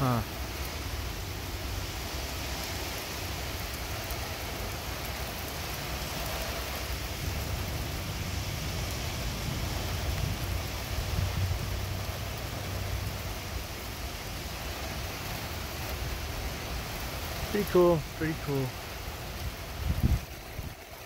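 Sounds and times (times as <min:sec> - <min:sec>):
steady rain hissing: 0:00.0 - 0:21.0.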